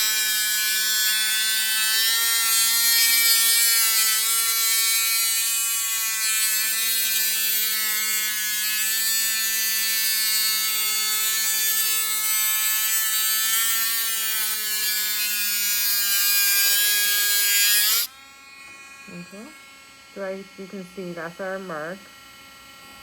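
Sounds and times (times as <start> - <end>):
rotary tool grinding shell: 0.0 - 22.8.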